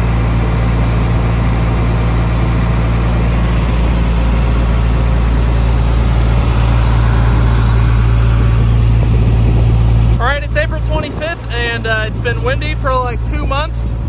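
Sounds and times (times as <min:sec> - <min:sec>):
large engine idling: 0:00.0 - 0:14.0.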